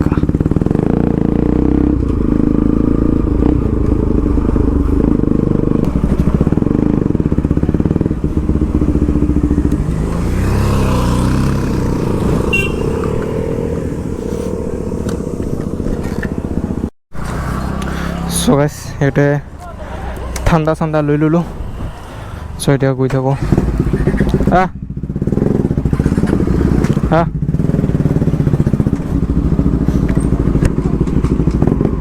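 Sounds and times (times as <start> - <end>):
motorcycle engine running: 0.0 - 18.3, 23.5 - 32.0.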